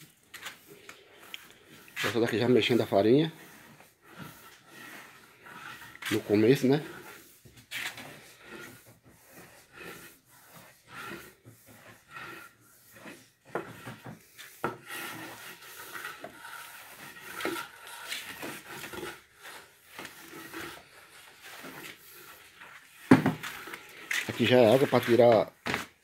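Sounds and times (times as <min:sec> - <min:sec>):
rake scraping flour on pan: 0:00.0 - 0:25.5.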